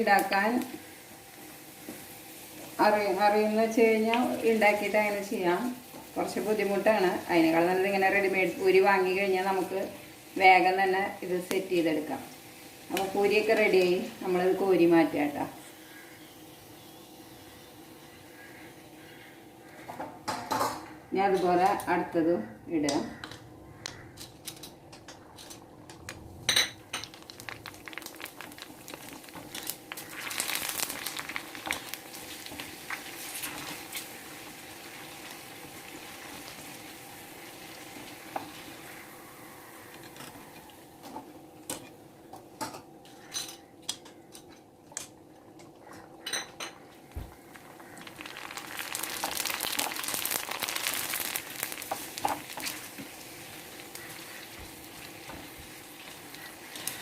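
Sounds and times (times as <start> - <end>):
food deep-frying in hot oil: 0.0 - 22.2, 22.8 - 43.4, 44.9 - 57.0.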